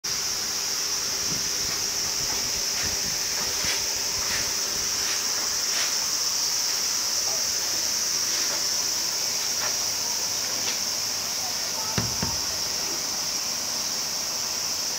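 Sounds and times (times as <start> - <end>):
steady high-pitched hiss: 0.0 - 14.9.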